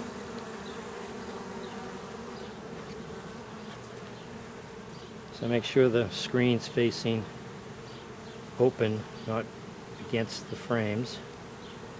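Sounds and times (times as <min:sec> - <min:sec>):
honey bees buzzing: 0:00.0 - 0:11.9.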